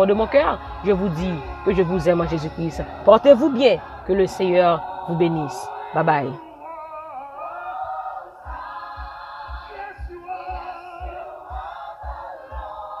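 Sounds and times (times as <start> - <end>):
steady low beat: 0.0 - 6.8, 7.5 - 13.0
choir singing: 0.0 - 13.0.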